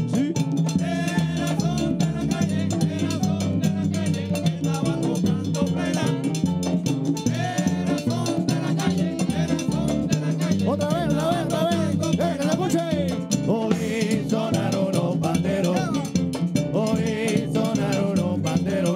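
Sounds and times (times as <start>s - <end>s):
bass line: 0.0s - 18.9s
frame drums: 0.0s - 18.9s
scraped guiro: 0.0s - 18.9s
voices singing: 0.8s - 6.5s, 7.3s - 18.9s.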